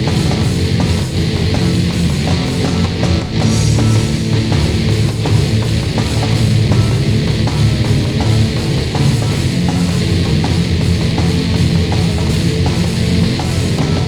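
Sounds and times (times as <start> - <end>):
distorted electric guitars: 0.0 - 14.0
drum kit beat: 0.0 - 14.0.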